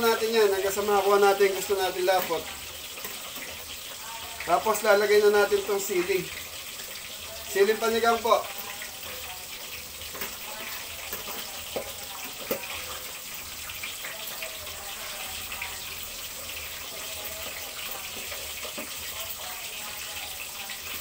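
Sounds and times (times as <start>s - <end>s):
sauce simmering and bubbling: 0.0s - 21.0s.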